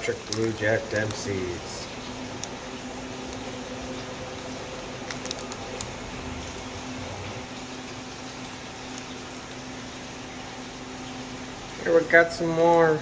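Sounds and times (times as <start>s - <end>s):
aquarium pumps humming and hissing: 0.0s - 13.0s.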